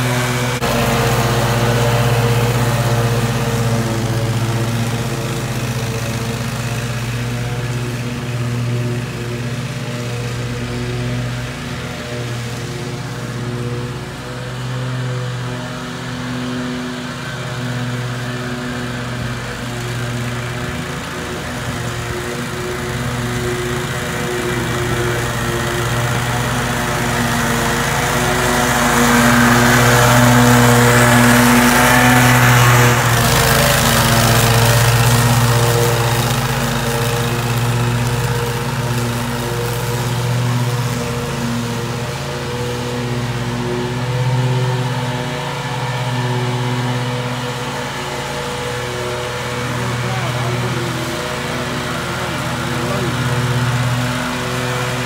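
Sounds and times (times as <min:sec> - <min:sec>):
mower engine running: 0:00.0 - 0:55.0.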